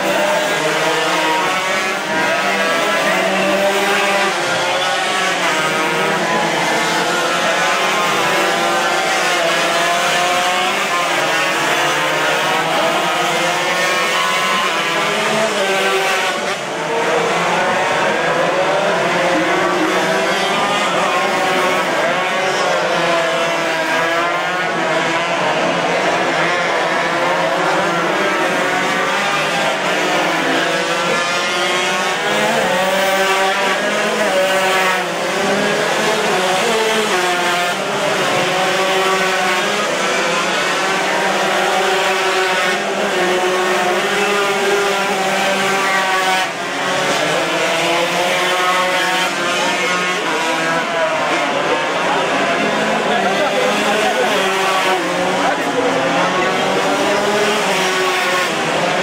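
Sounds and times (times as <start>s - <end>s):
motorcycles revving: 0.0s - 59.0s.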